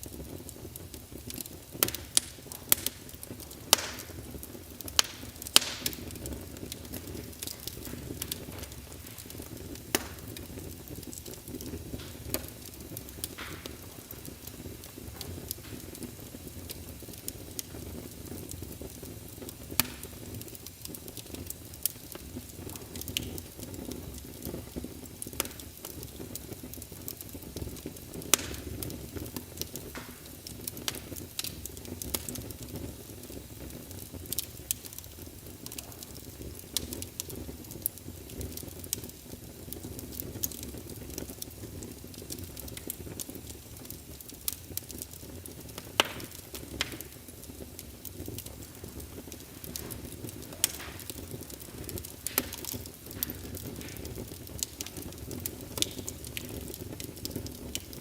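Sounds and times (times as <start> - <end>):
low rush of flames: 0.0 - 58.0
wood crackling and popping: 0.0 - 58.0.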